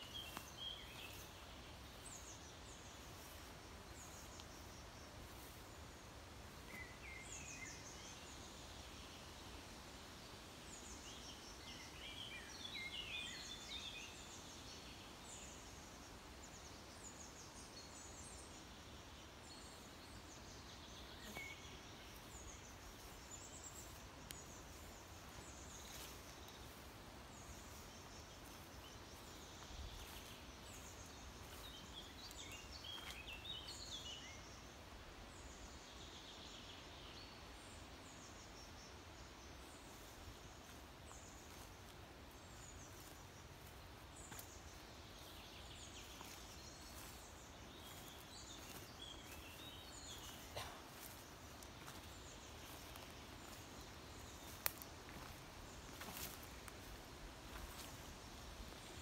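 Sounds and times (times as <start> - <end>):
songbirds chirping: 0.0 - 59.0
steady background hiss: 0.0 - 59.0.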